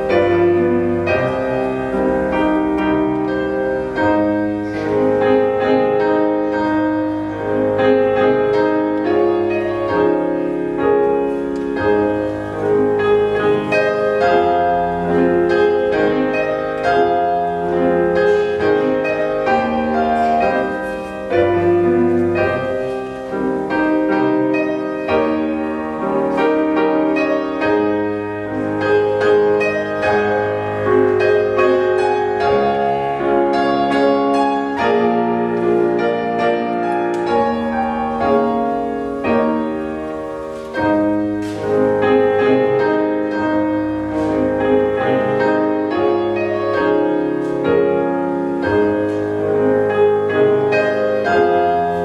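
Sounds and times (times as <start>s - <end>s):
classical piano piece: 0.0s - 52.0s.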